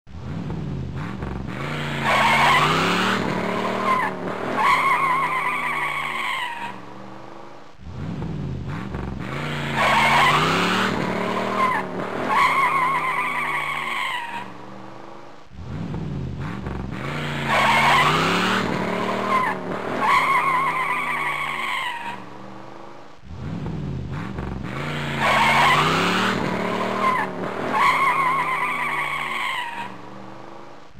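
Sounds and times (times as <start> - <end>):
engine revving: 0.1 - 30.9
car tyres squealing: 0.2 - 30.9.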